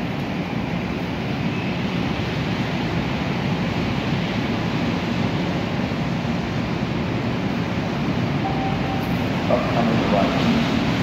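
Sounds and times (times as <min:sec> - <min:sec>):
light-rail car rumbling: 0:00.0 - 0:11.0.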